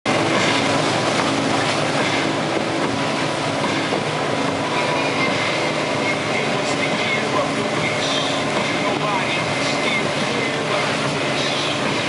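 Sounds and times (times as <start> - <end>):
boat engine hum: 0.1 - 12.0
churning wake water rushing: 0.1 - 12.0.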